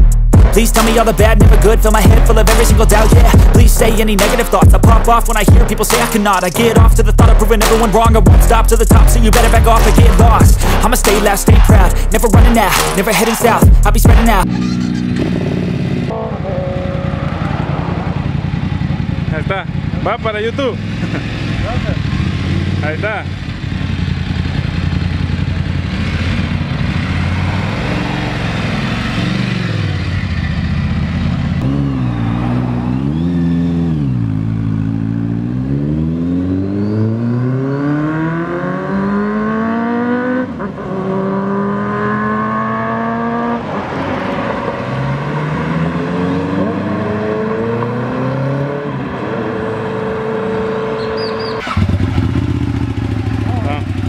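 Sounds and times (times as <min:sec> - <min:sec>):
motorcycles revving and pulling away: 0:00.5 - 0:54.0.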